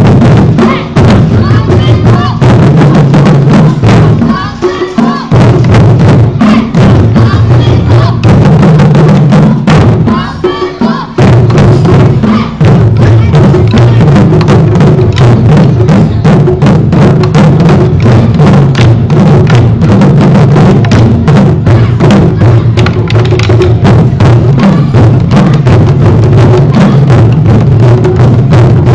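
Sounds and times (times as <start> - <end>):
barrel drums beaten with sticks: 0.0 - 28.9.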